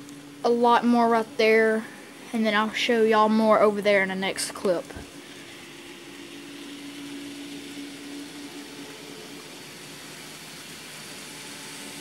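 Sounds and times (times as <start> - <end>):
low hum: 0.0 - 12.0
model train wheels whirring: 0.0 - 12.0.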